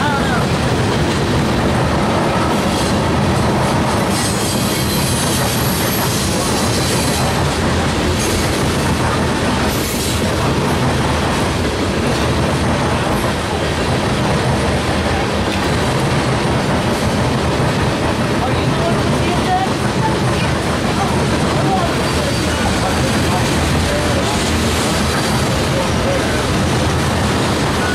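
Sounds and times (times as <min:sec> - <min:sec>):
steel wheels rolling on rail: 0:00.0 - 0:27.9.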